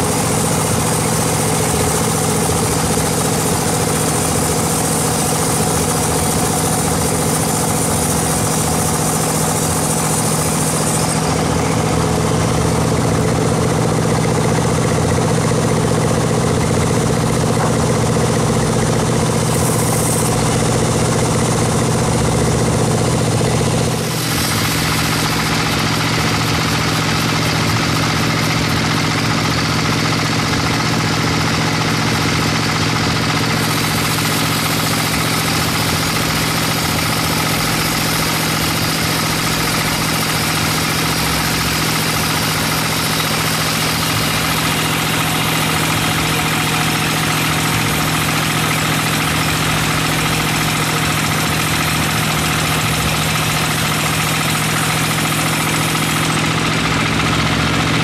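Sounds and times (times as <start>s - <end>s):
saw blade rasping through log: 0.0s - 14.2s, 16.4s - 58.0s
machine hum: 0.0s - 58.0s.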